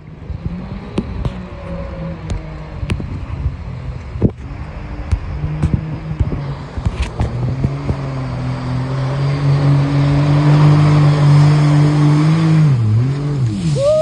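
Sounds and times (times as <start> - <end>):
jet boat engine at high revs: 0.0 - 14.0.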